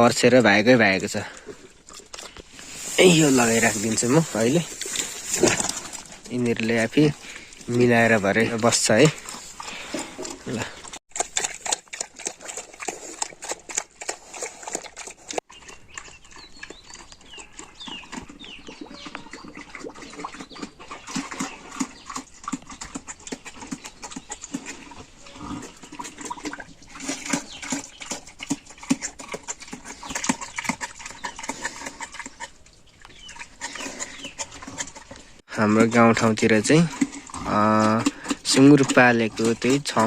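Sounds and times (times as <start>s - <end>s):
pigs grunting: 0.0s - 32.6s, 33.2s - 40.0s.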